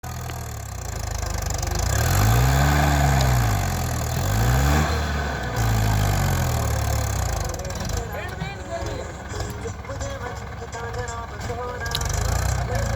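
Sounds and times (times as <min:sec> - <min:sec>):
tractor diesel engine revving: 0:00.0 - 0:12.9.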